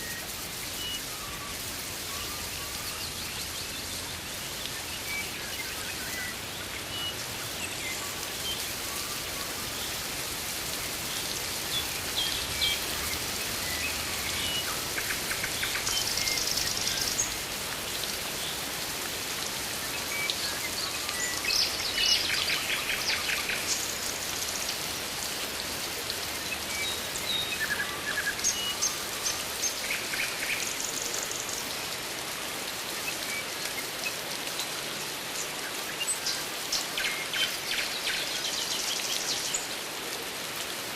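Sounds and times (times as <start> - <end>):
rain hissing: 0.0 - 40.9.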